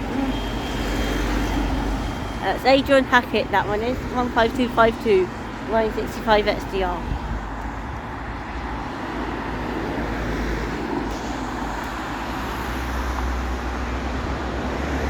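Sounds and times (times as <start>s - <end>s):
bus engine rumbling: 0.0s - 15.0s
road traffic noise: 0.0s - 15.0s.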